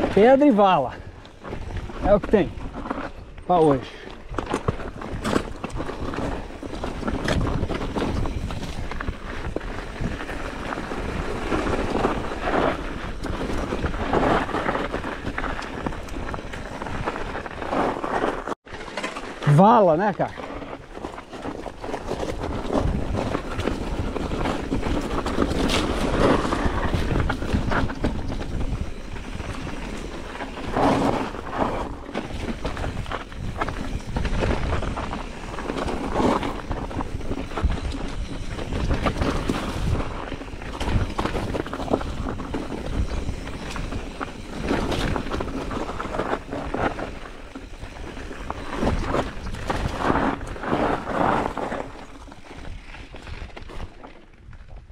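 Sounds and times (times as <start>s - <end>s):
wind rumble on microphone: 0.0s - 18.6s, 20.5s - 54.9s
bike tyres rolling over stones: 0.0s - 54.9s
bike knocks and rattles: 3.9s - 19.4s, 20.5s - 54.6s.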